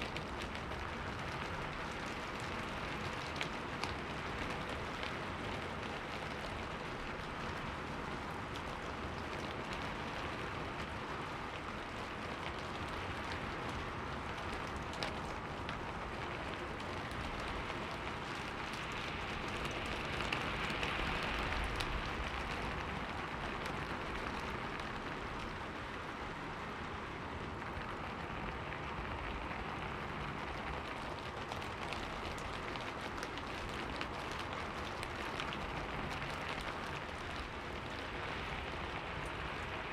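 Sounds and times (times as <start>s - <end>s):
raindrop ticks: 0.0s - 39.9s
steady rain: 0.0s - 39.9s.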